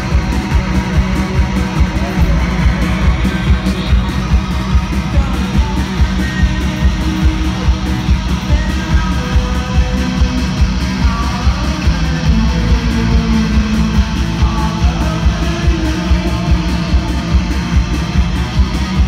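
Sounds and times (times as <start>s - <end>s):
electric guitar: 0.0s - 19.0s
live rock band playing: 0.0s - 19.0s.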